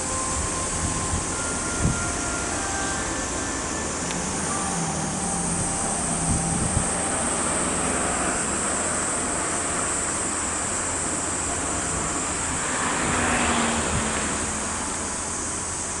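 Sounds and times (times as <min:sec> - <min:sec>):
constant high hiss: 0:00.0 - 0:16.0
passing road traffic: 0:00.0 - 0:16.0
wind: 0:00.0 - 0:16.0.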